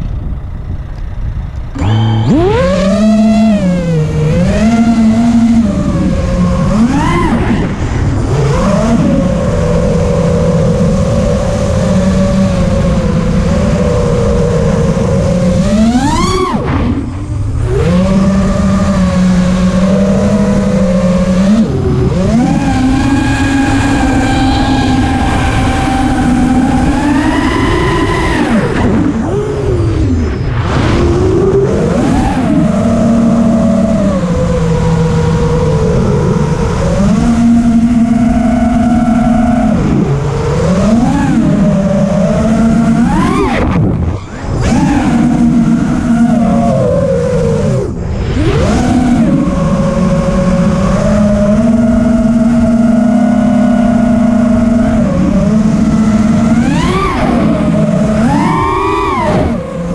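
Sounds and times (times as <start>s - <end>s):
electric motors whining: 0.0s - 59.9s
wind rushing past microphone: 3.5s - 59.9s.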